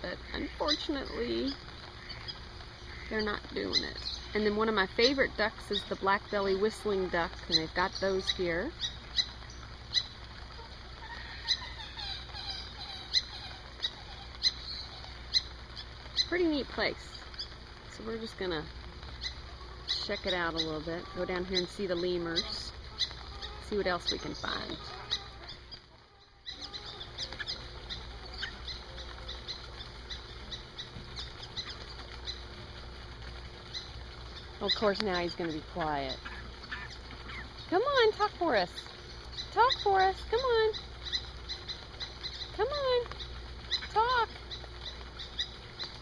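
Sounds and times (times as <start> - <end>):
birds chirping: 0.0 - 46.0
waterfowl low falling calls: 0.0 - 46.0.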